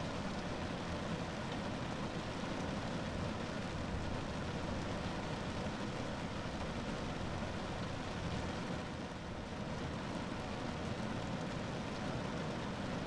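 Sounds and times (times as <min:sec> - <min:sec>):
rain on a car roof: 0:00.0 - 0:13.0.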